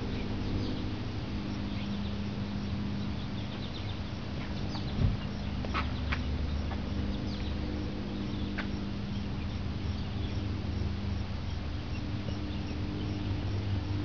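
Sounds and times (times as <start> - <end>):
insects chirping: 0.0 - 14.0
steady low hum: 0.0 - 14.0.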